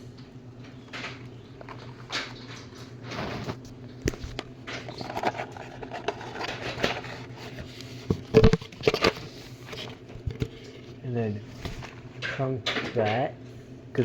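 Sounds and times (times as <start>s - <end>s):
plastic case handling noises: 0.7s - 13.1s.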